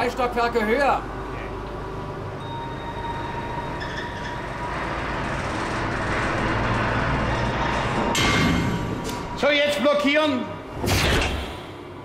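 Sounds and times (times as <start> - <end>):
elevator mechanical rumble: 0.0 - 10.8.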